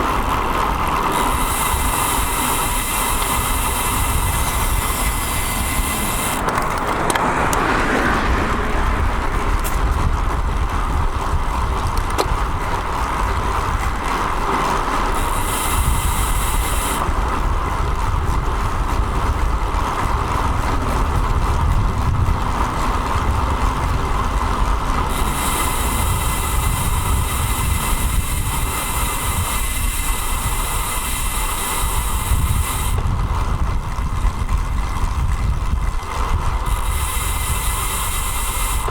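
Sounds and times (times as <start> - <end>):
road traffic rumble: 0.0 - 38.9
wind noise on microphone: 0.0 - 38.9.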